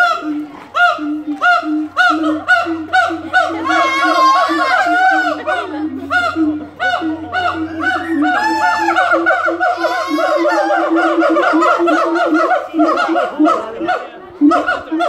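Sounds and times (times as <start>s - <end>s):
gibbons whooping in chorus: 0.0s - 15.0s.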